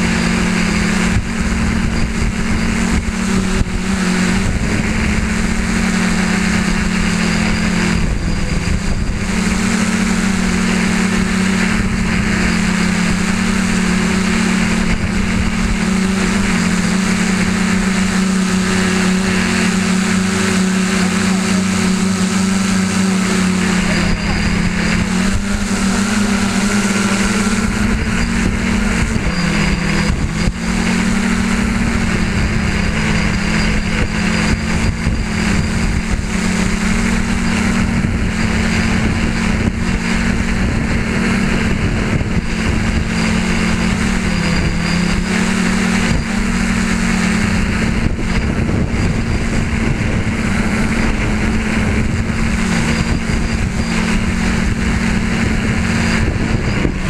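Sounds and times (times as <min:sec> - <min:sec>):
drone motors and propellers buzzing: 0:00.0 - 0:57.0.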